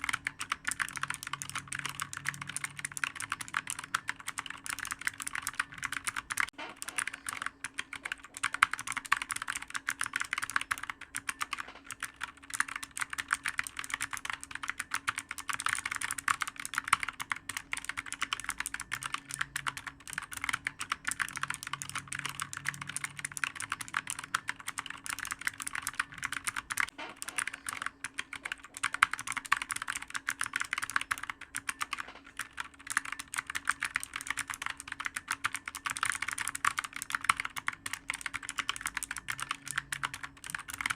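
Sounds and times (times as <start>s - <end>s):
computer keyboard typing: 0.0s - 40.9s.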